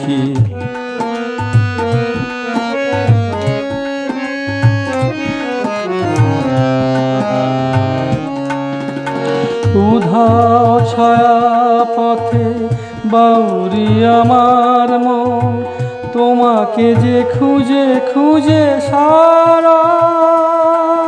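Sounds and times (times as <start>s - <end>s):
harmonium melody: 0.0s - 21.0s
tabla drumming: 0.0s - 21.0s.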